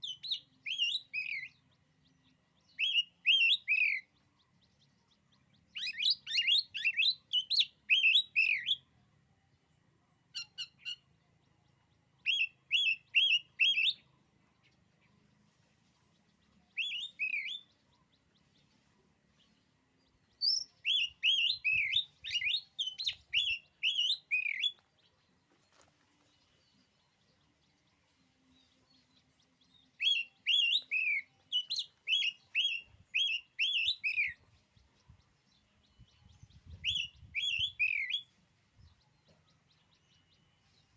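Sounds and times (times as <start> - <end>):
bird singing whistled notes: 0.0 - 9.0, 10.3 - 15.2, 16.0 - 18.8, 19.4 - 25.3, 26.4 - 40.9.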